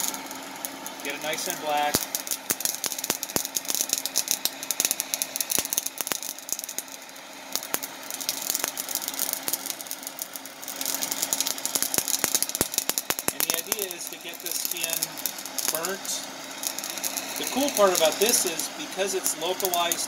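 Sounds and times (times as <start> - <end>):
pepper skin crackling: 0.0 - 20.0
torch flame hissing: 0.0 - 20.0.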